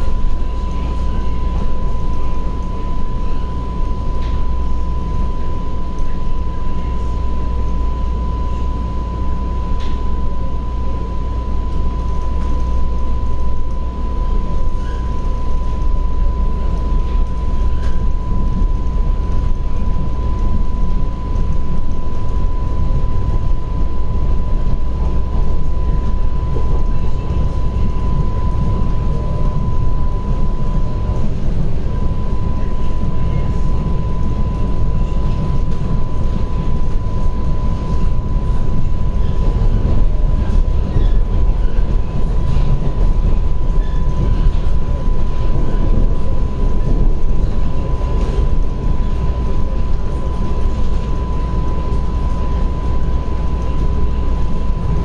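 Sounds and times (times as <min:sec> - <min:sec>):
high whine: 0:00.0 - 0:55.0
subway train rumble: 0:00.0 - 0:55.0.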